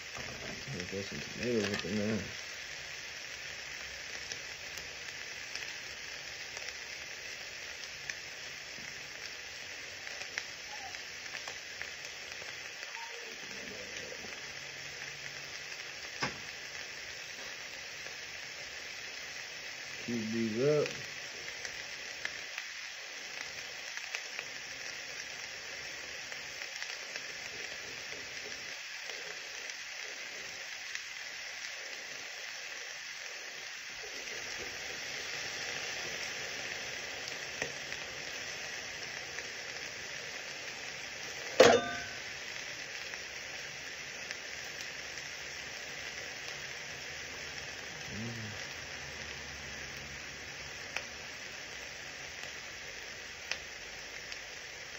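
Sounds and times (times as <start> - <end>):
food sizzling in a skillet: 0.0 - 54.9.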